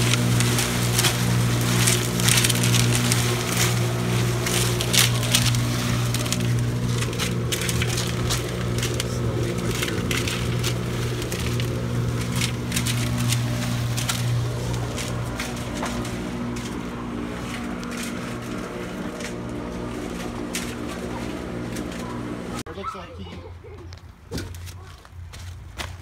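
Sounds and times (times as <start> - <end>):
concrete mixer humming: 0.0 - 23.4.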